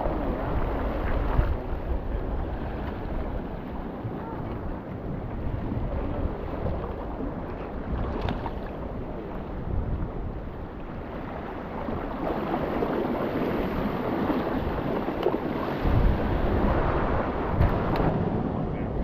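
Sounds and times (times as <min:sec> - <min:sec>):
surf washing against rocks: 0:00.0 - 0:19.0
wind buffeting microphone: 0:00.0 - 0:19.0.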